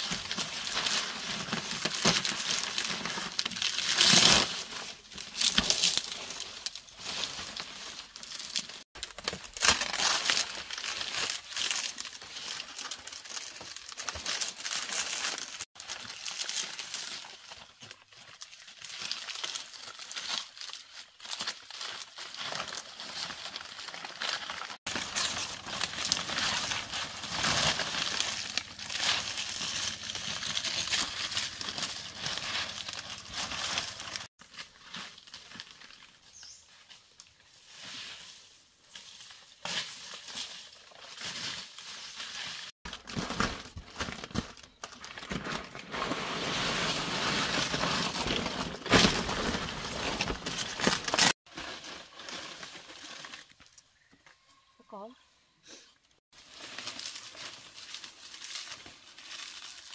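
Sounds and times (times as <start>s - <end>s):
rustling handling noise: 0.0s - 53.8s.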